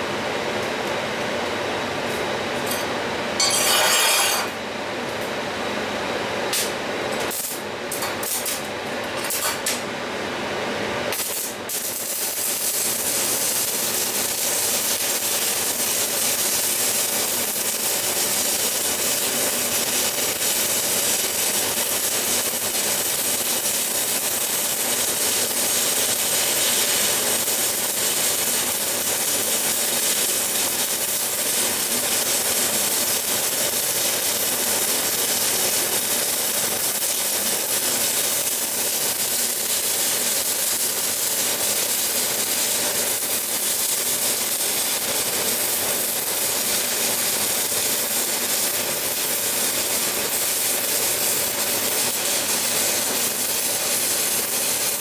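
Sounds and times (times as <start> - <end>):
welding arc hissing: 6.5 - 8.7, 11.1 - 55.0.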